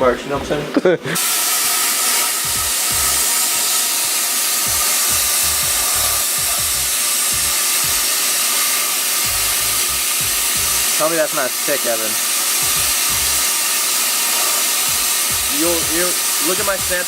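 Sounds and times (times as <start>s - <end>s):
welder arc sizzling: 0.8s - 17.0s.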